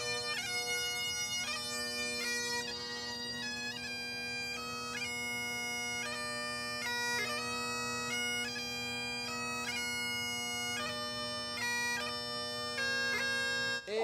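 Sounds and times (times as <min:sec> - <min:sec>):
bagpipes playing a tune: 0:00.0 - 0:14.0.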